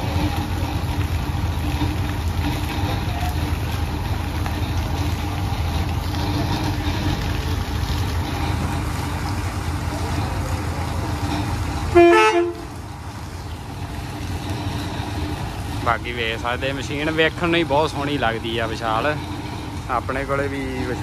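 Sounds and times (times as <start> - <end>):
diesel engine running at low speed: 0.0 - 21.0.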